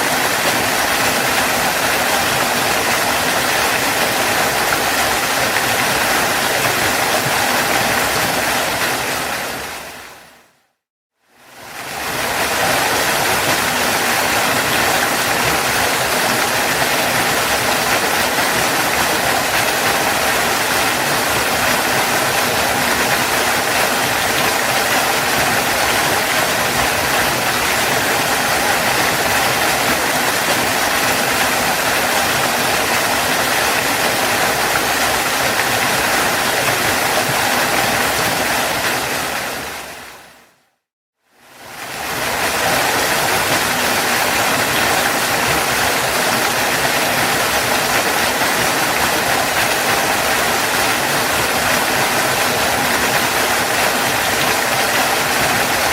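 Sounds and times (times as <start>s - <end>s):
waterfall rushing: 0.0s - 10.5s, 11.5s - 40.4s, 41.5s - 55.9s.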